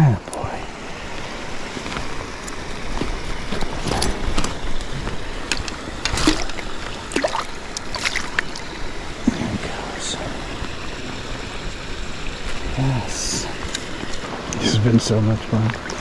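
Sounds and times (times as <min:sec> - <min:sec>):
stream flowing: 0:00.0 - 0:16.0
water splashing and sloshing: 0:00.1 - 0:16.0.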